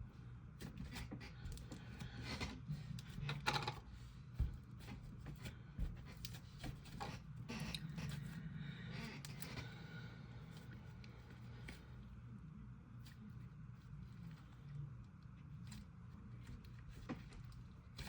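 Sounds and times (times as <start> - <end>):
hands kneading slime: 0.4 - 18.0.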